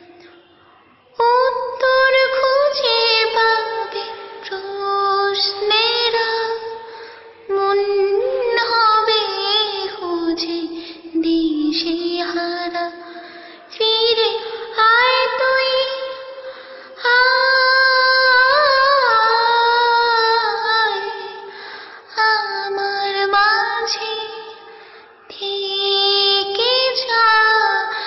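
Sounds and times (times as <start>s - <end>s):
woman singing wordless melody: 1.1s - 21.5s, 22.1s - 24.7s, 25.3s - 28.0s.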